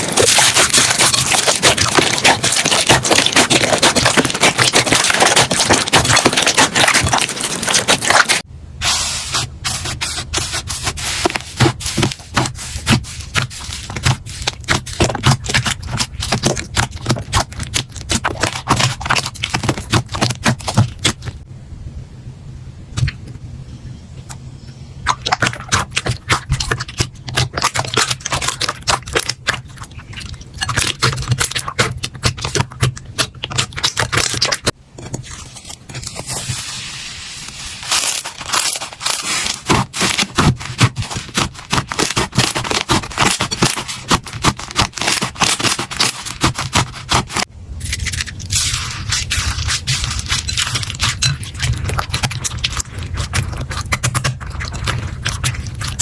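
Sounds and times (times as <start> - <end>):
slime squished by hand: 0.0 - 8.4, 9.3 - 21.3, 25.0 - 34.7, 37.5 - 56.0.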